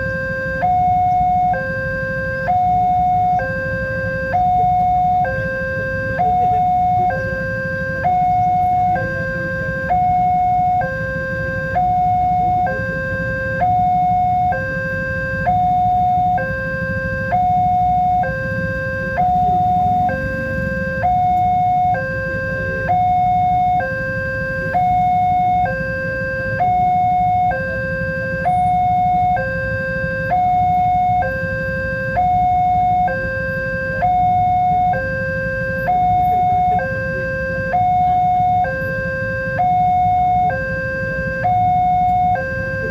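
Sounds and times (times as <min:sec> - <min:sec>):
two-tone crossing alarm: 0:00.0 - 0:42.9.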